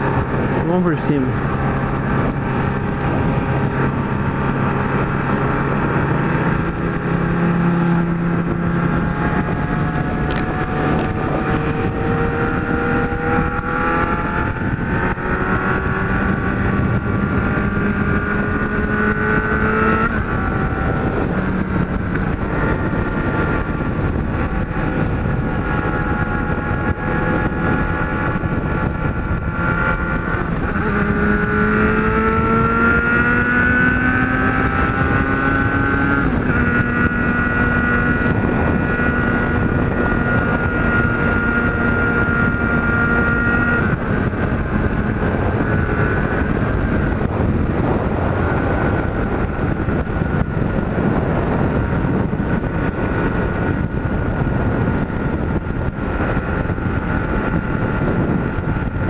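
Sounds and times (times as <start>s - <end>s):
motorcycle engine at speed: 0.0s - 59.0s
wind noise on microphone: 0.0s - 59.0s.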